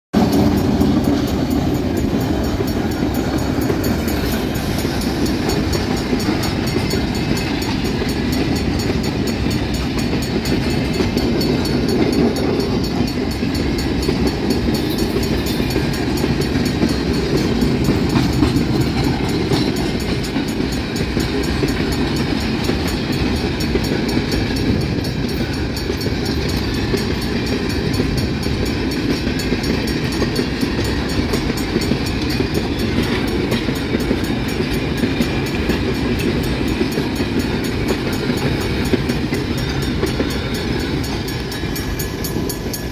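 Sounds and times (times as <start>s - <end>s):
diesel locomotive passing: 0.1s - 42.9s
wheels rumbling on rails: 0.2s - 42.9s.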